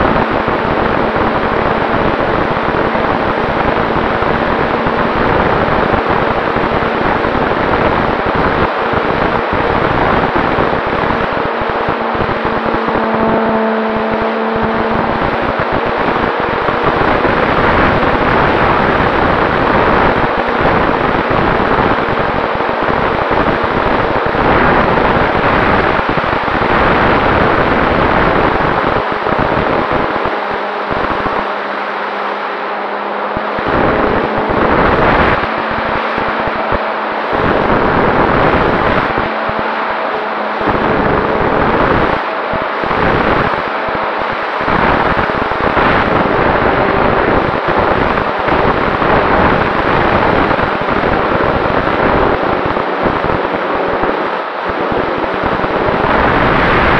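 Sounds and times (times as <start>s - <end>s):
airflow buffeting microphone: 0.0s - 56.9s
motor and propeller hum: 0.0s - 56.9s.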